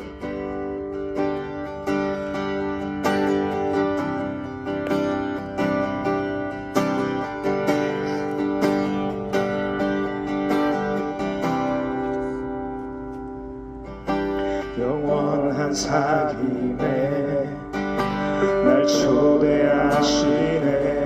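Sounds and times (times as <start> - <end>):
acoustic guitar strummed chords: 0.0 - 21.0.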